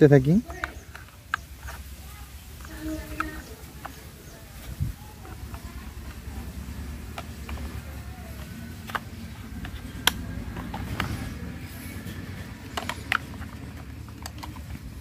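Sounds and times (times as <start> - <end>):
plastic toy clicks: 0.3 - 15.0.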